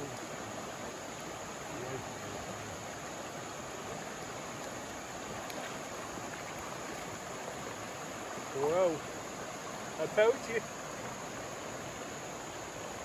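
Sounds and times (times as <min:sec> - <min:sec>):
river water rushing over rapids: 0:00.0 - 0:13.0.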